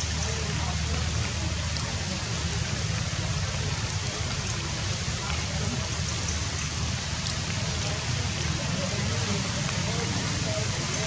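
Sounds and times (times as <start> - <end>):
rain on foliage: 0.0 - 11.0.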